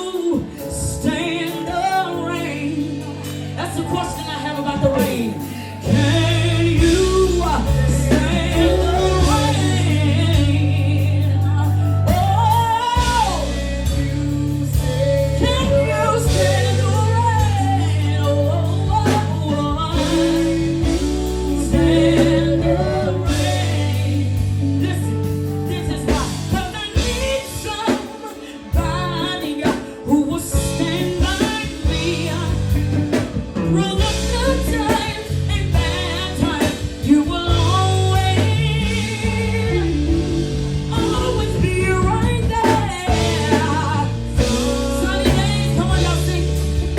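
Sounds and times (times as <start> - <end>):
bass line: 0.0 - 27.9, 28.7 - 46.9
drums: 0.0 - 46.9
person singing: 0.0 - 46.9.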